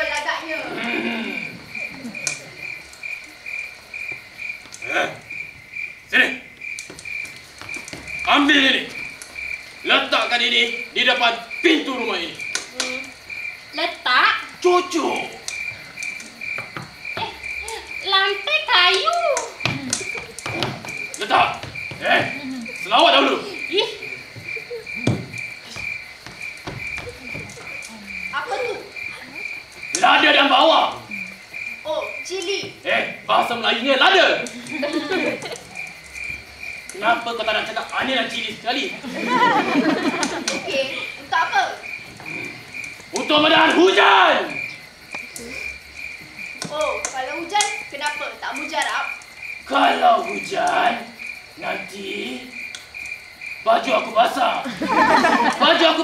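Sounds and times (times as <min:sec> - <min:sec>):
crickets chirping: 0:00.0 - 0:56.0
frogs croaking: 0:00.0 - 0:56.0
short louder insect calls: 0:00.0 - 0:56.0.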